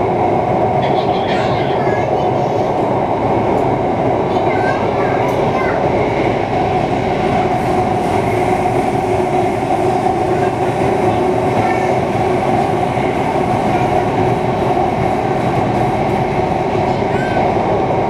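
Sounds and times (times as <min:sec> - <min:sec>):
metro train rumbling in tunnel: 0:00.0 - 0:18.0.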